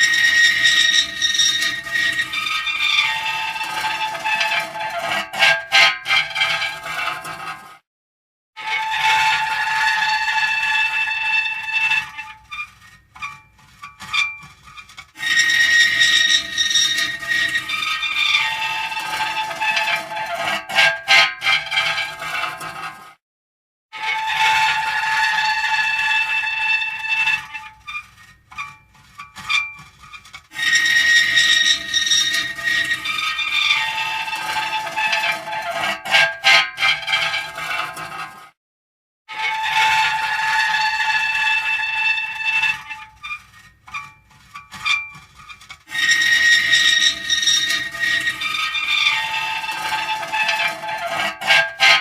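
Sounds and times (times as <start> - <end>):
metal creaking: 0.0 - 7.7, 8.6 - 23.0, 24.0 - 38.4, 39.4 - 52.0
short squeaks and clicks: 0.0 - 7.7, 8.7 - 23.0, 24.0 - 38.4, 39.3 - 52.0.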